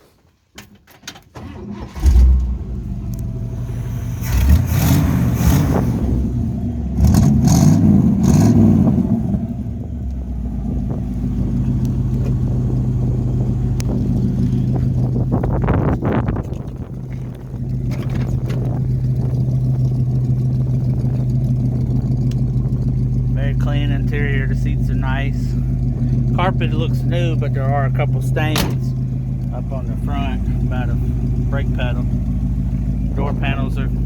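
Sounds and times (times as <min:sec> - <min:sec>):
car engine starting and revving: 0:01.4 - 0:34.0.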